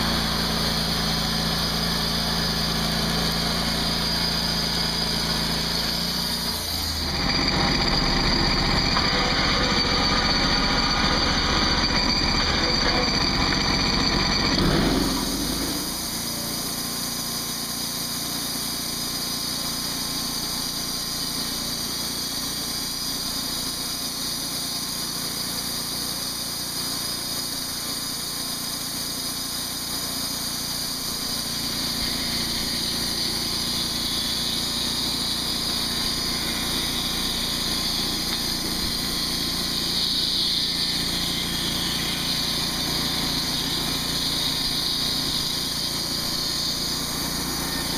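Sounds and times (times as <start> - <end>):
band sawmill engine cutting log: 0.0 - 47.9.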